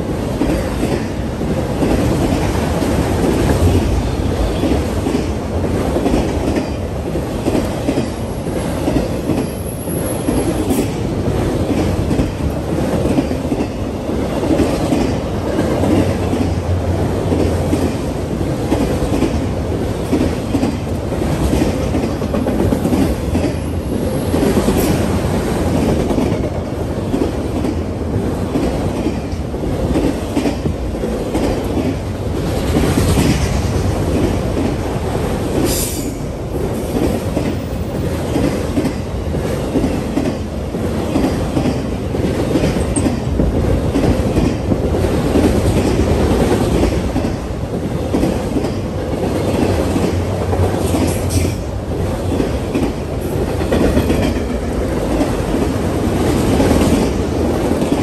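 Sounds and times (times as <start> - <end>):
clickety-clack over rail joints: 0.0 - 58.0
freight train wheels rumbling: 0.0 - 58.0.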